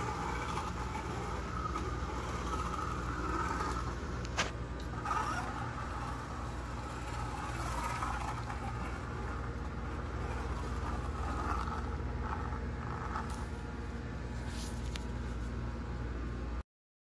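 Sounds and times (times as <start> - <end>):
slot car motor whirring: 0.0 - 16.6
steady low hum: 0.0 - 16.6.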